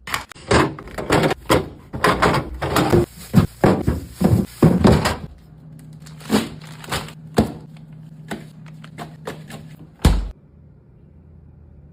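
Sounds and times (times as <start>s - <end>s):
refrigerator hum: 0.0s - 11.9s.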